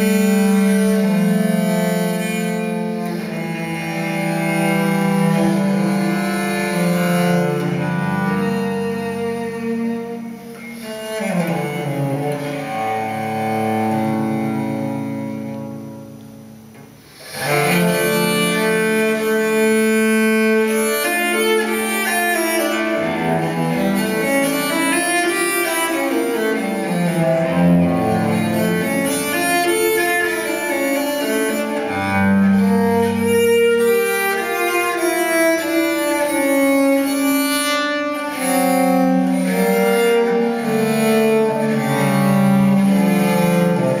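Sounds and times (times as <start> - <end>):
bowed string music with cello: 0.0 - 44.0.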